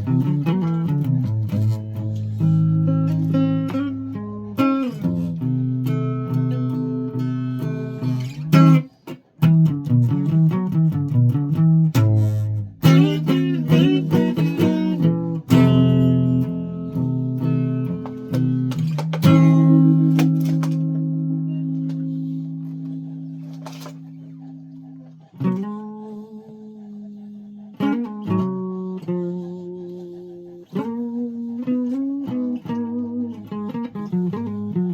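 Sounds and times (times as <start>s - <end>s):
guitar chords and picked notes: 0.0s - 25.9s, 30.8s - 34.9s.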